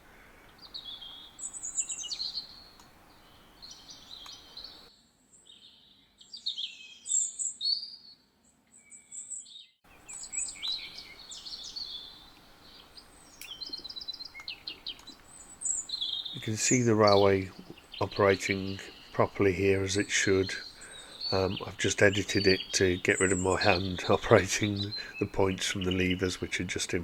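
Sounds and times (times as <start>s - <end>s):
background hiss: 0.0s - 5.6s, 9.9s - 27.0s
small birds chirping and trilling: 0.0s - 27.0s.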